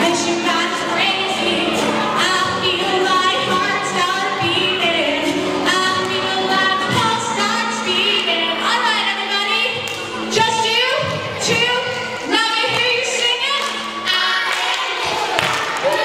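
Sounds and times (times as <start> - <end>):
woman singing into a microphone: 0.0 - 14.6
acoustic guitars: 0.0 - 15.7.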